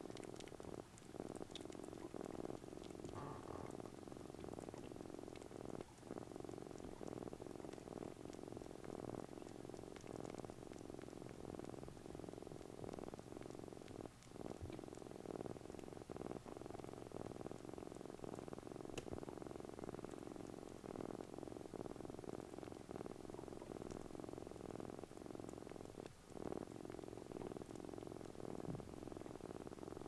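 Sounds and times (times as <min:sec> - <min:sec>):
kitten purring: 0:00.0 - 0:30.0.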